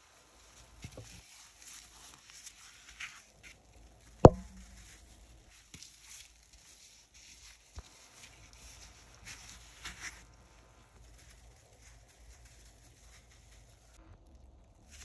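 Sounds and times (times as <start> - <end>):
soap foam crackling: 0.0 - 15.0.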